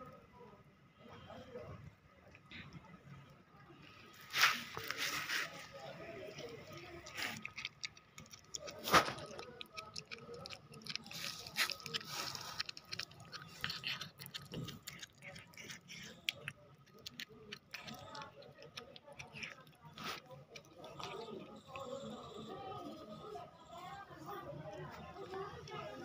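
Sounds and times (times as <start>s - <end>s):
cat chewing raw meat: 4.5s - 26.0s.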